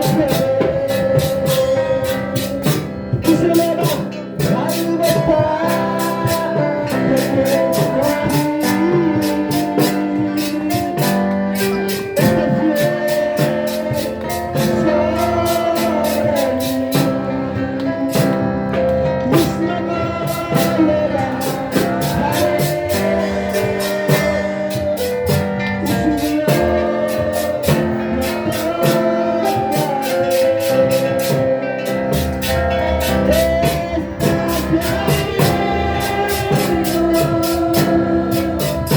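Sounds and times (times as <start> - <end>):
drum kit beat: 0.0 - 38.9
guitar: 0.0 - 38.9
keyboard: 0.0 - 38.9
person singing: 0.0 - 38.9.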